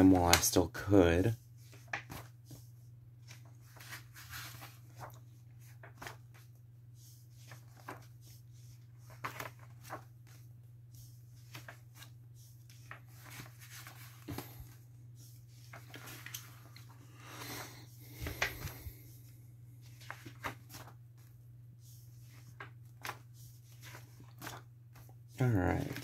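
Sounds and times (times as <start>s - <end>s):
paper rustling: 0.0s - 26.0s
pages flipping: 1.6s - 19.2s, 19.8s - 26.0s.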